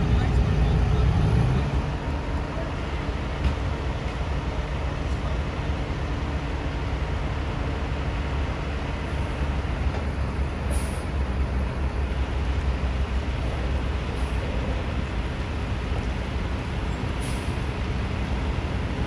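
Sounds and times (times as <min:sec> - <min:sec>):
diesel truck engine rumble: 0:00.0 - 0:19.0.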